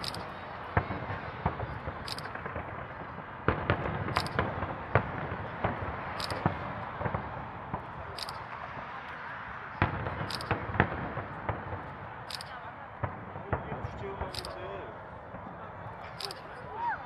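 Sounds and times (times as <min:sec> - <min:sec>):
fireworks bangs and pops: 0:00.0 - 0:16.9.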